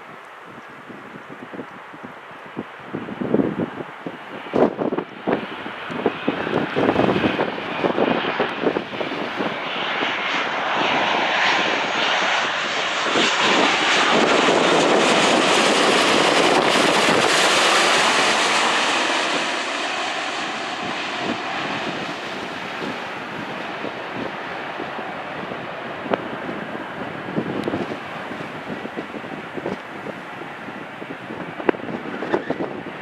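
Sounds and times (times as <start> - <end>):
wind buffeting microphone: 0.0 - 33.0
jet airliner passing over: 0.5 - 33.0.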